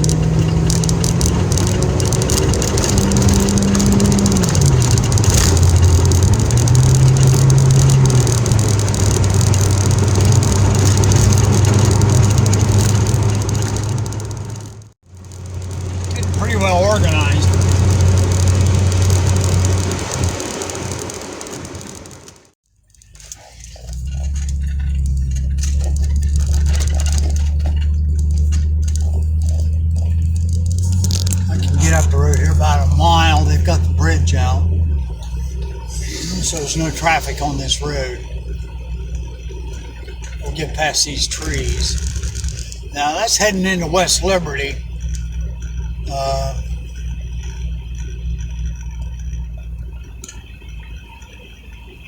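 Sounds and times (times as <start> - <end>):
car engine: 0.0 - 52.0
constant hiss: 0.0 - 52.0
light ticks: 0.0 - 52.0
road noise inside car: 0.0 - 52.0.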